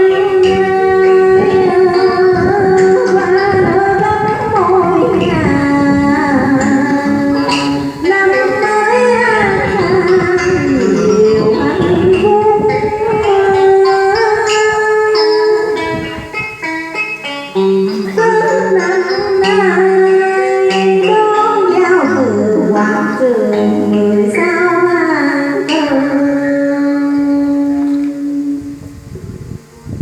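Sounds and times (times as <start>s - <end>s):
plucked string music with bent notes: 0.0s - 30.0s.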